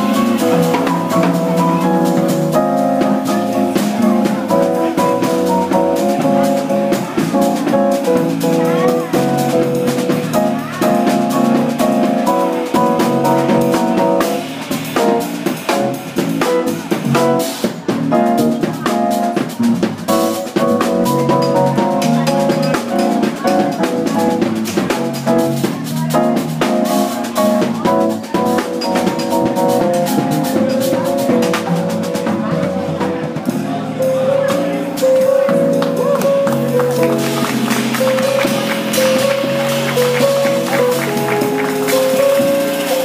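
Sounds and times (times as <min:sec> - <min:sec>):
drum kit with cymbals: 0:00.0 - 0:43.0
electric keyboard chords: 0:00.0 - 0:43.0.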